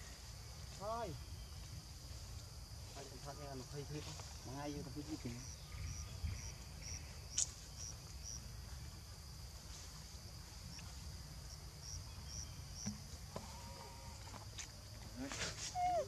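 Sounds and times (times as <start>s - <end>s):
high insect hum: 0.0s - 16.0s
insects chirping: 0.0s - 16.0s.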